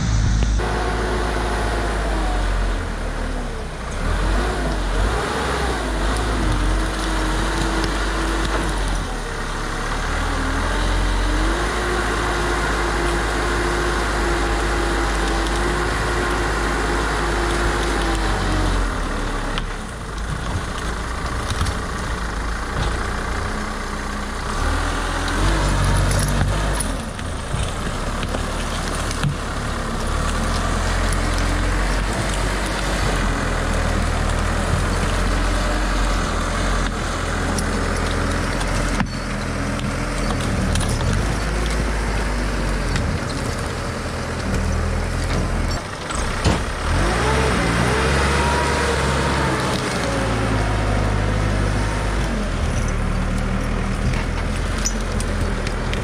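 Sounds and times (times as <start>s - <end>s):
diesel engine running and revving: 0.0s - 56.0s.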